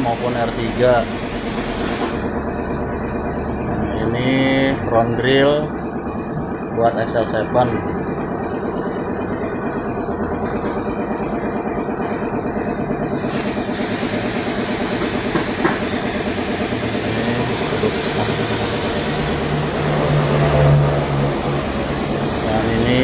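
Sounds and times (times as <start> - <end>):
engine running with fast pulse: 0.0 - 23.0.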